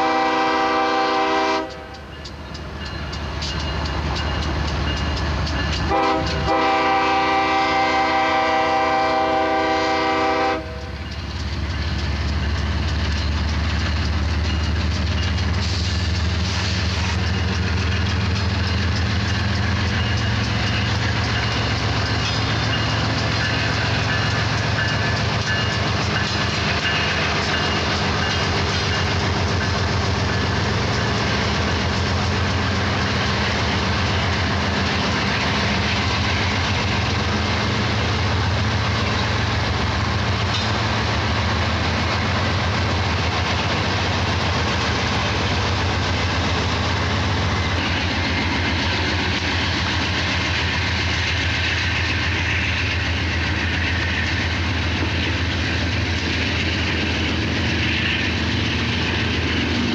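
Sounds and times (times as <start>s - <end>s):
diesel locomotive engine drone: 0.0s - 59.9s
train wheels clattering on rails: 0.0s - 59.9s.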